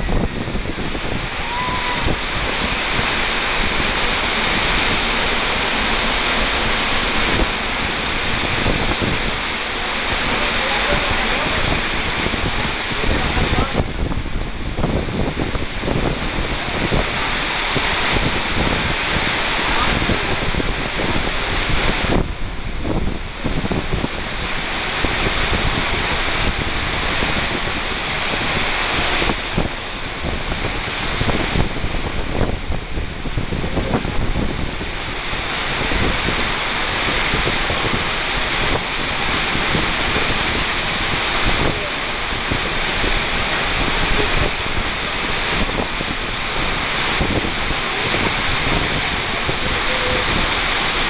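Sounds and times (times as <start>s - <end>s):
waterfall rushing: 0.0s - 51.0s
wind buffeting on microphone: 0.0s - 51.0s.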